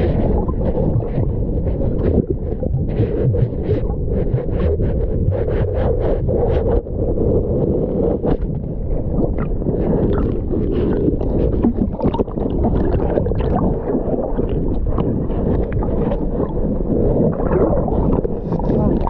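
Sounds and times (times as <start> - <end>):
muffled water sloshing and bubbling: 0.0 - 19.0.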